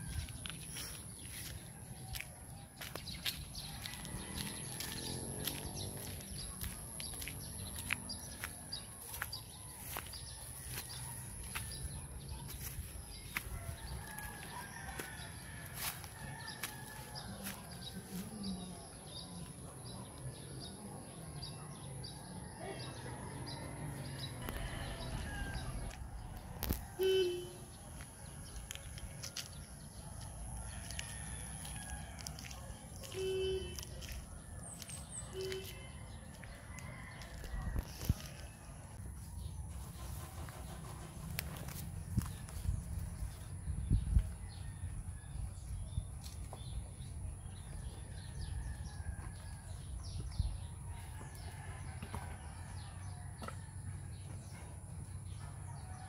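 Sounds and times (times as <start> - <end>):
rural outdoor ambience: 0.0 - 56.0.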